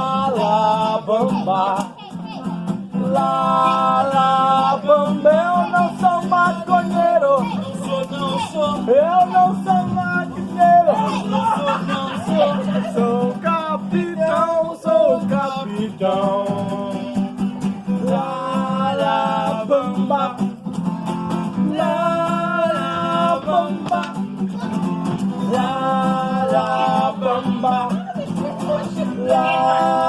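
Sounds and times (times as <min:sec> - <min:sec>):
strummed acoustic guitar: 0:00.0 - 0:30.0
voices singing: 0:00.0 - 0:30.0.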